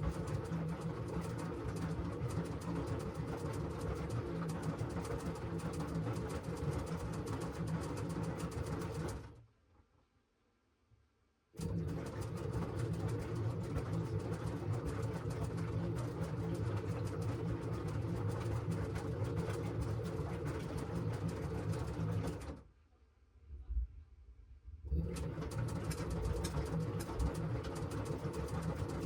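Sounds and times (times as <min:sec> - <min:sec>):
laundry and water churning: 0:00.0 - 0:08.6, 0:11.6 - 0:22.6, 0:24.9 - 0:29.0
washing machine motor hum: 0:00.0 - 0:09.4, 0:11.6 - 0:22.6, 0:24.8 - 0:29.0.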